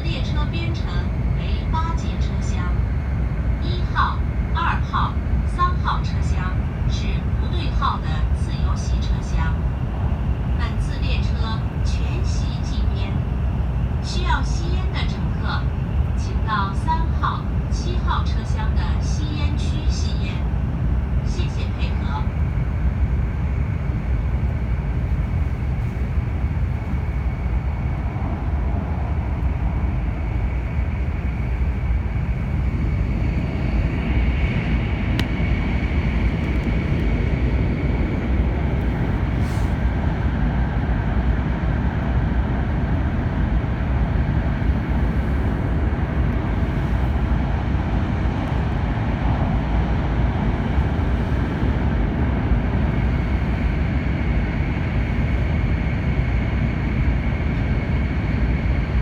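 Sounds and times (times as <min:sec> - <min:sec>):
train interior low rumble: 0:00.0 - 0:59.0.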